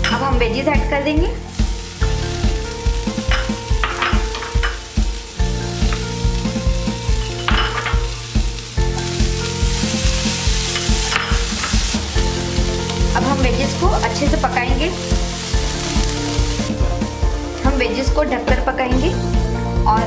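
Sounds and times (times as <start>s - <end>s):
peppers sizzling in pan: 0.0s - 19.2s
background music with beat: 1.1s - 17.8s.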